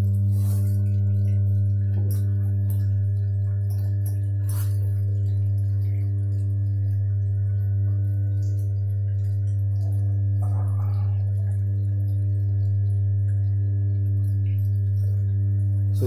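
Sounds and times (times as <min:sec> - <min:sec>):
transformer electrical hum: 0:00.0 - 0:16.0.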